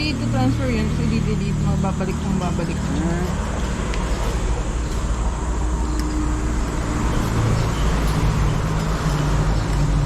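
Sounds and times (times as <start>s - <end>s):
road rumble: 0.0s - 10.0s
vehicle engine: 0.0s - 10.0s.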